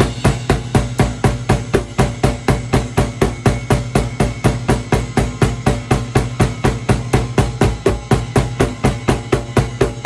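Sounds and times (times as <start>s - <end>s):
bass drum: 0.0s - 10.0s
cymbal ringing: 0.0s - 10.0s
drum kit steady beat: 0.0s - 10.0s.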